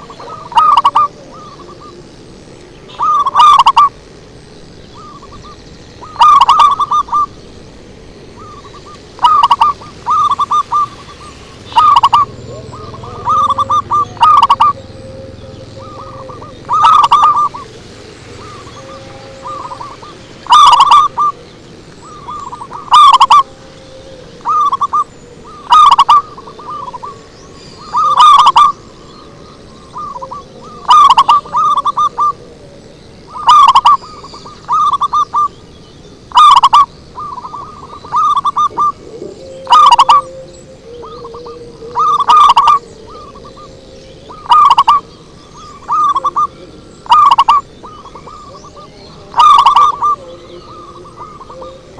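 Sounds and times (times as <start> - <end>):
dove cooing: 0.0 - 51.9.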